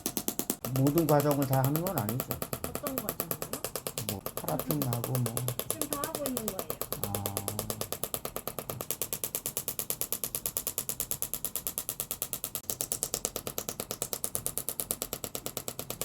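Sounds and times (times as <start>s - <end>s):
rapid mechanical clicking: 0.0s - 16.0s.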